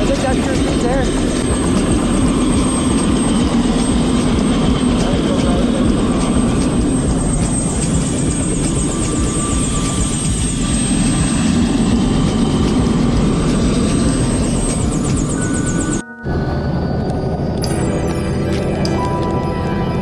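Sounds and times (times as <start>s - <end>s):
helicopter rumbling from inside cabin: 0.0s - 20.0s.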